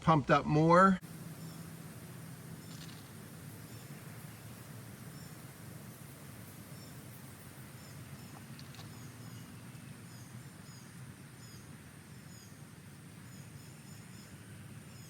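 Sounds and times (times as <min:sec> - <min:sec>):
small birds chirping: 0:01.0 - 0:15.0.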